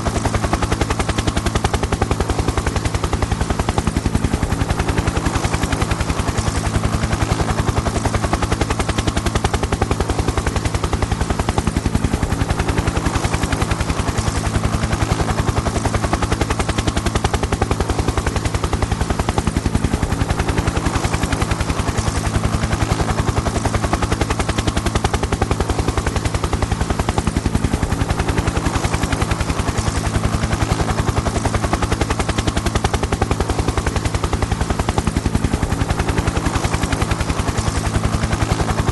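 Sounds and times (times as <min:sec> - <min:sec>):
helicopter rotor blades chopping: 0:00.0 - 0:38.9.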